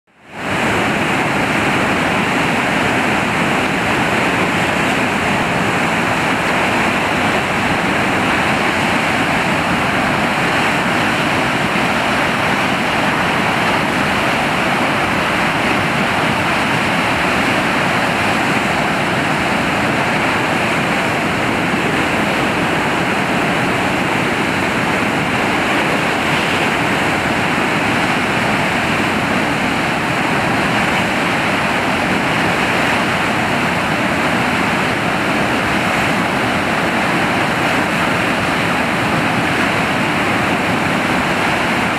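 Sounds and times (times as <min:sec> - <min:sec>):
river roaring over rapids: 0:00.1 - 0:41.9.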